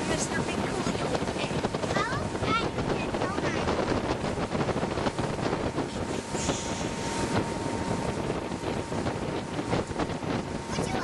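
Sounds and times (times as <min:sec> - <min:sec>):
boat running noise: 0:00.0 - 0:11.0
wind buffeting microphone: 0:00.0 - 0:11.0.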